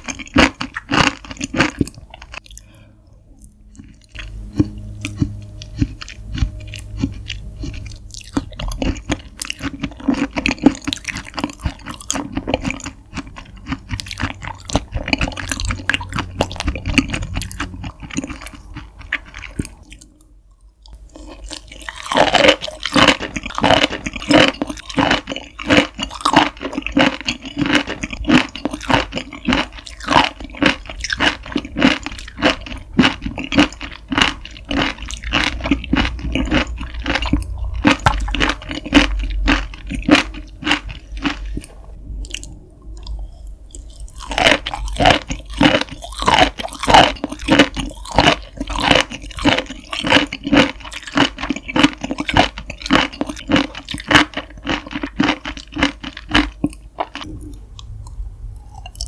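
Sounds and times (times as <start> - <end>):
close wet chewing: 3.4 - 59.0.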